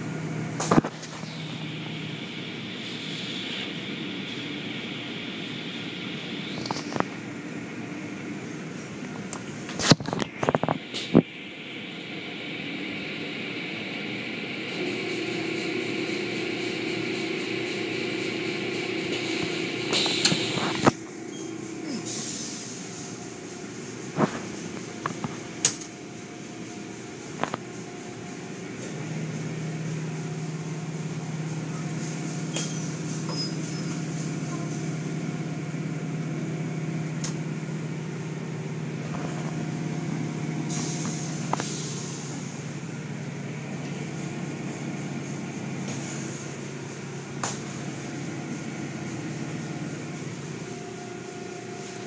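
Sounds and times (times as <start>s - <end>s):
car wash machinery hum: 0.0s - 52.0s.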